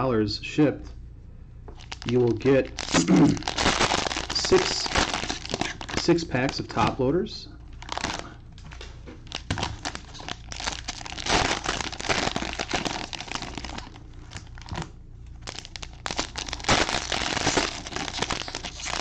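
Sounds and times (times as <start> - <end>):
plastic wrapping crinkling and tearing: 1.7 - 6.9, 7.7 - 19.0.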